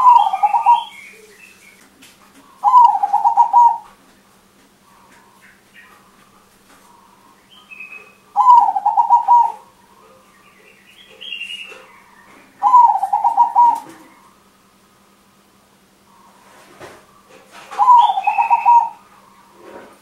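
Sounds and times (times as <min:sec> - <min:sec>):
dove cooing: 0:00.0 - 0:01.7, 0:02.3 - 0:04.1, 0:04.8 - 0:14.4, 0:16.1 - 0:20.0.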